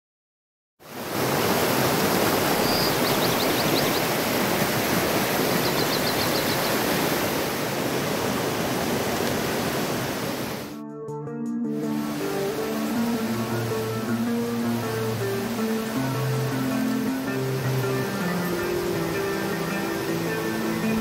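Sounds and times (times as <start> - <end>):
creek water rushing over rocks: 0.8 - 10.8, 11.7 - 21.0.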